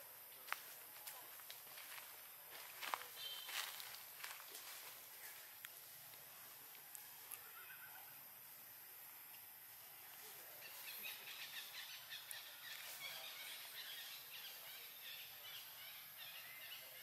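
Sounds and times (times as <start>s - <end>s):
forest ambience: 0.0s - 17.0s.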